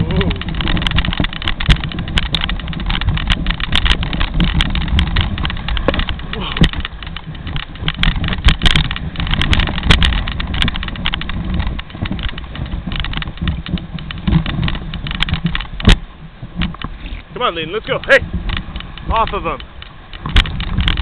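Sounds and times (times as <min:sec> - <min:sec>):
sled knocking and rattling: 0:00.0 - 0:21.0
sled runners scraping on snow: 0:00.0 - 0:21.0.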